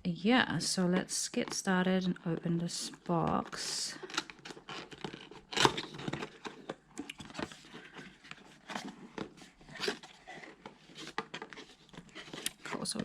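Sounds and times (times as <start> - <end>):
cardboard packaging crinkling: 1.4 - 13.0.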